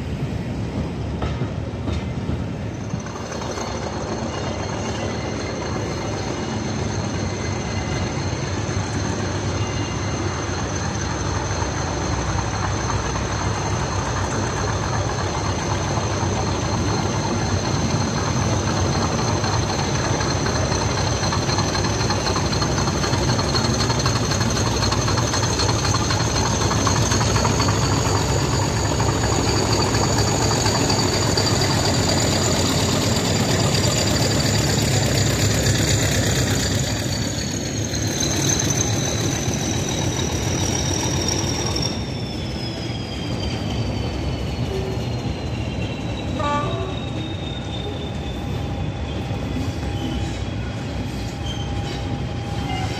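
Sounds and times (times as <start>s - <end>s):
diesel locomotive engine rumble: 0.0s - 52.9s.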